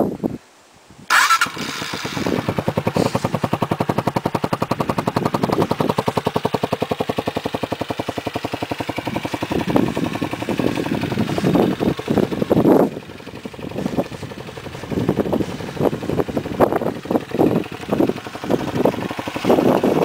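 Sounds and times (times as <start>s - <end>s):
motorcycle engine idling: 1.1s - 20.0s.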